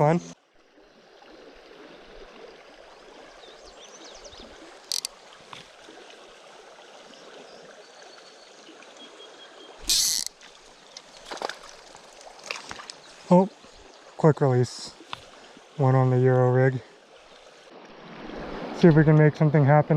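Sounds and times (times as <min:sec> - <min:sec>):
river water flowing: 0:00.0 - 0:19.9.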